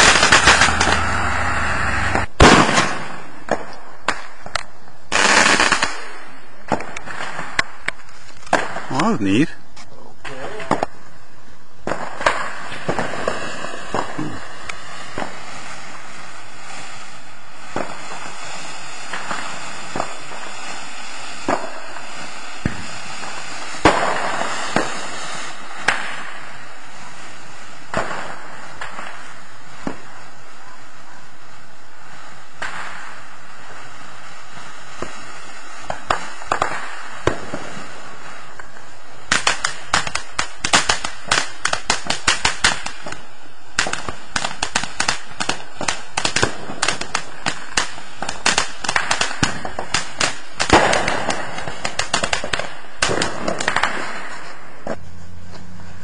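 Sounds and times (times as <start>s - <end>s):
firework crackles and pops: 0.0s - 56.0s
firework fountain hissing: 0.0s - 56.0s.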